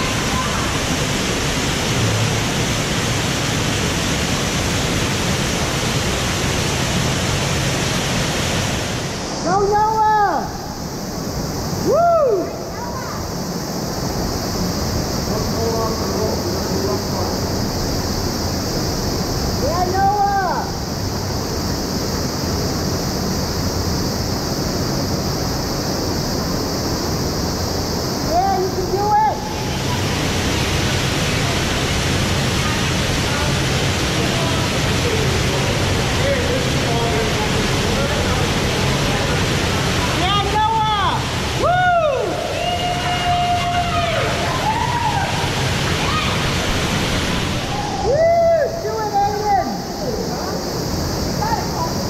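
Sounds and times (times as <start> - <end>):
waterfall rushing into pool: 0.0 - 52.0.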